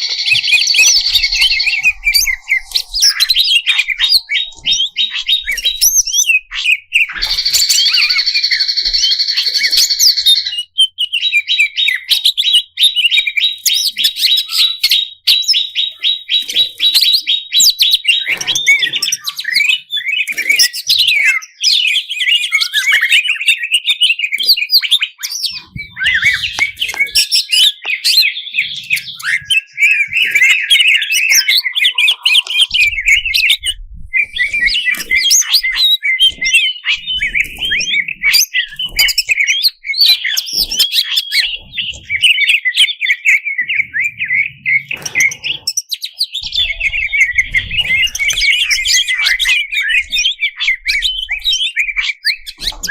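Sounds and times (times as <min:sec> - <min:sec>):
leafbird singing: 0:00.0 - 0:52.9.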